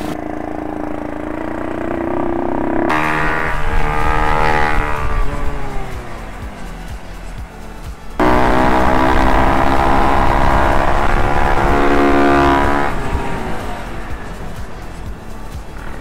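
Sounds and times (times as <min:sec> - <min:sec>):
minibike engine revving: 0:00.0 - 0:16.0.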